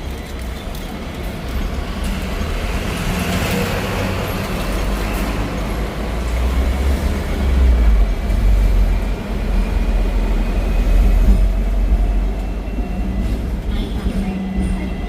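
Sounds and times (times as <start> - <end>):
tram rumbling on tracks: 0.0 - 15.0.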